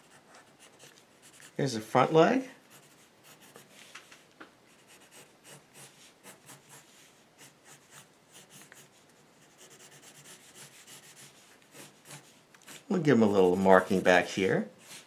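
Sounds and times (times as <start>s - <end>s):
pencil scratching on paper: 0.0s - 1.6s, 2.6s - 3.8s, 4.7s - 15.0s.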